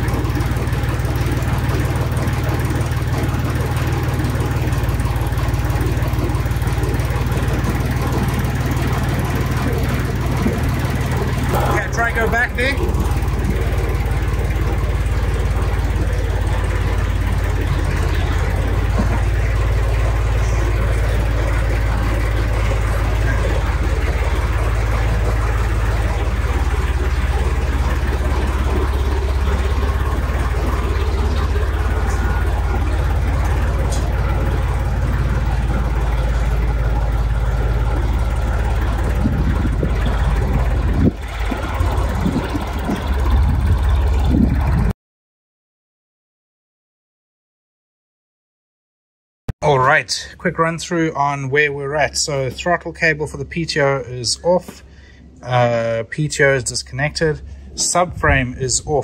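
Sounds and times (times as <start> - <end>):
tractor engine running at low revs: 0.0 - 45.0, 49.6 - 59.0.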